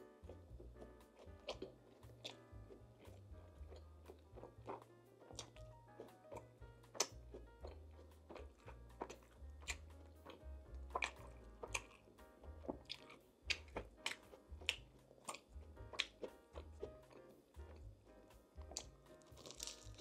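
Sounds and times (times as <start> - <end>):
close chewing and biting: 0.0 - 20.0
soft background music: 0.0 - 20.0
wet mouth clicks and smacks: 0.2 - 12.1, 12.7 - 17.4.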